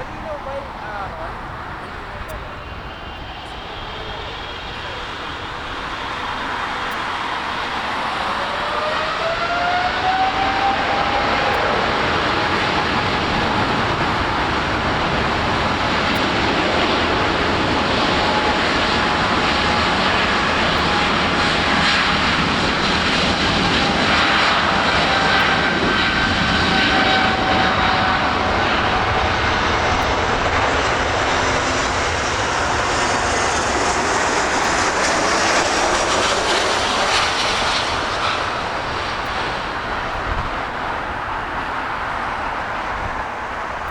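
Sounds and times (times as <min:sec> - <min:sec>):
jet airliner engine whine: 0:00.0 - 0:43.9.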